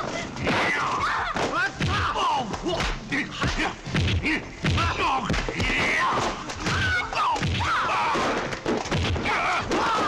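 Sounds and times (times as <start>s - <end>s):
fighters shouting and yelling: 0.0s - 10.0s.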